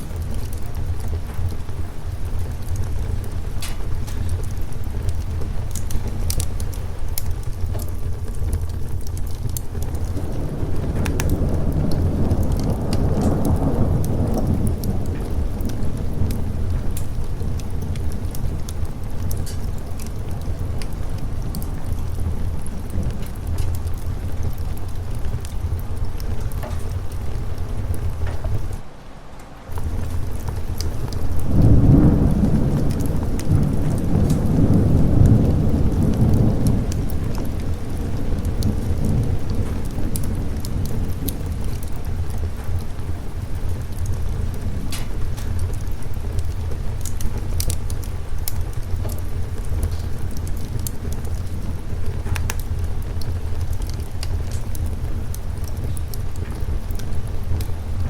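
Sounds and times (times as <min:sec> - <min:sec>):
sharp rain drop ticks: 0:00.0 - 0:28.8, 0:29.7 - 0:58.0
thunder rolling: 0:00.0 - 0:28.9, 0:29.7 - 0:58.0
fireplace crackling: 0:00.0 - 0:58.0
steady rain: 0:00.0 - 0:58.0.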